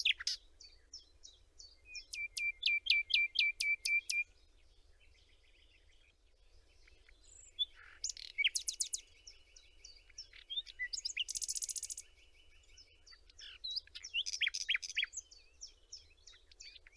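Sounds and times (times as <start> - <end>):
birds chirping and trilling: 0.0 - 16.9.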